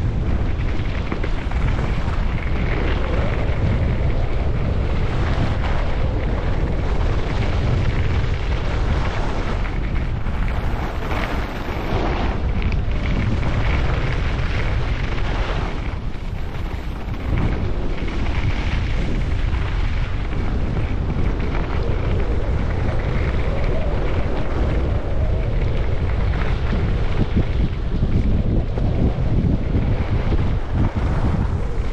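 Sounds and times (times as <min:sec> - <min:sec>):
skis sliding on snow: 0:00.0 - 0:31.9
wind buffeting microphone: 0:00.0 - 0:31.9.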